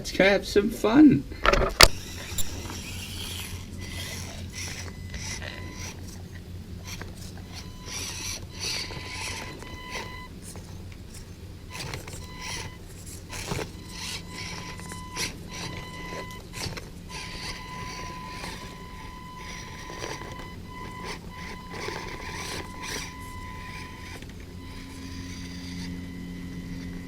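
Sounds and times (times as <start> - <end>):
small electric motor whining: 1.5 - 27.0
tyres scraping on stone: 1.6 - 25.9.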